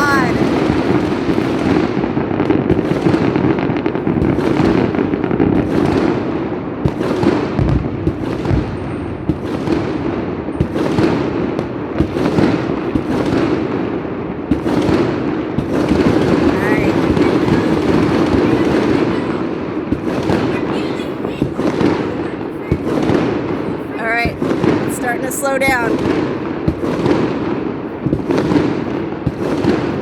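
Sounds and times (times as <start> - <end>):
deep firework booms: 0.0 - 30.0
fireworks cracking and banging: 0.0 - 30.0.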